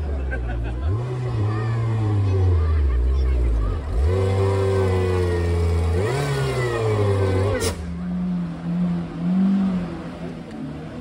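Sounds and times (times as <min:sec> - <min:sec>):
car engine revving: 0:00.6 - 0:11.0.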